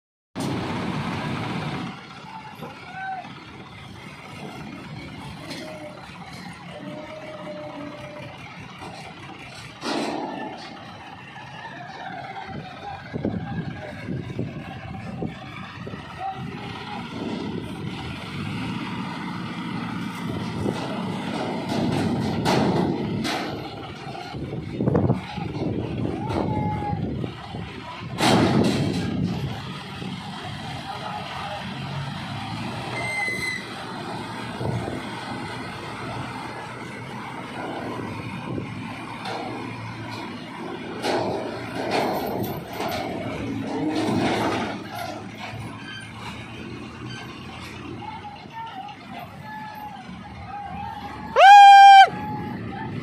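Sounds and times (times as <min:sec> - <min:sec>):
diesel crane engines droning: 0:00.4 - 0:53.0.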